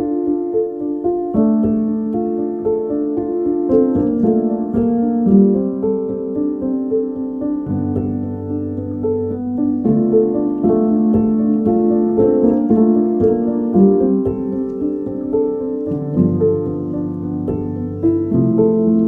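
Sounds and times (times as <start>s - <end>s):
calm piano piece: 0.0s - 19.0s.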